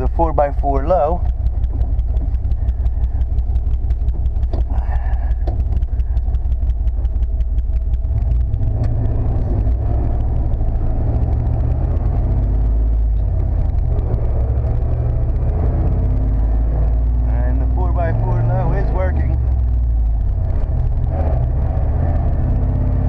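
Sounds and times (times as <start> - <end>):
pickup truck engine running: 0.0 - 23.0.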